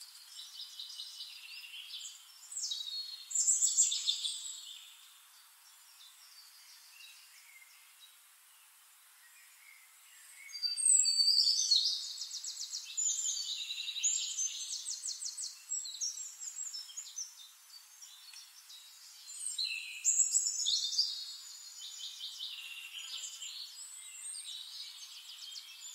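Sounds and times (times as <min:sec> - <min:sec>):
birds trilling chirps: 0:00.0 - 0:25.9
faint hiss: 0:00.0 - 0:25.9.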